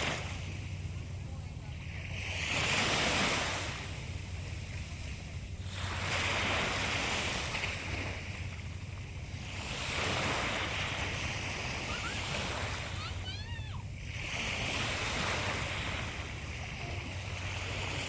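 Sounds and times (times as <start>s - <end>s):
sea waves washing onto shore: 0.0s - 18.0s
steady low rumble: 0.0s - 18.0s.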